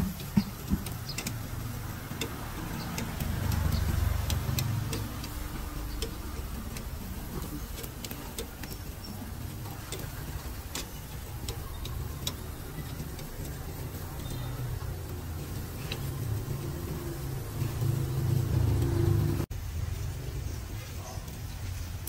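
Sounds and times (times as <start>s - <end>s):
passing traffic engine rumble: 0.0s - 22.0s.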